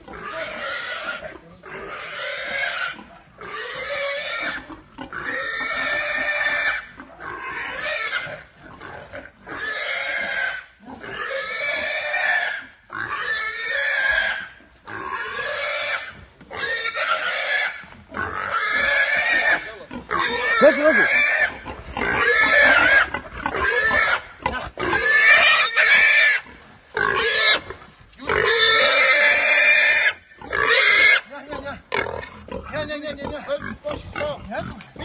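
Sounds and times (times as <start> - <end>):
pig squealing: 0.1 - 35.0.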